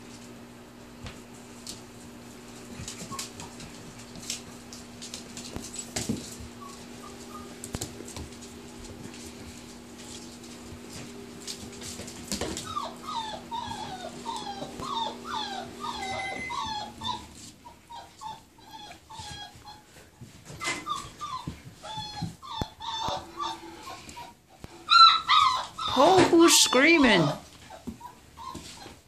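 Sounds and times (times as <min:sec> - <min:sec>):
puppies whining: 0:02.7 - 0:29.0.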